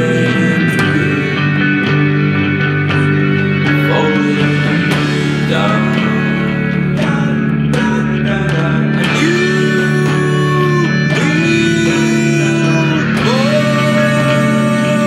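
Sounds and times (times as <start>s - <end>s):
guitar sliding held notes: 0.0s - 15.0s
low accompaniment: 0.0s - 15.0s.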